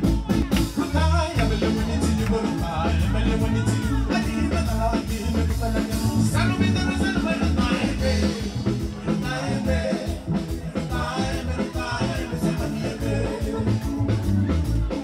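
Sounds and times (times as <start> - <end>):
bass notes: 0.0 - 15.0
drum kit: 0.0 - 15.0
keyboards: 0.0 - 15.0
man singing into a microphone: 0.7 - 14.4.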